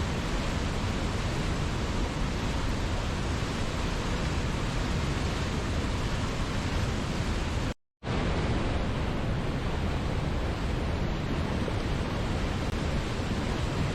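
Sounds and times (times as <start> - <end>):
waterfall roaring: 0.0 - 13.9.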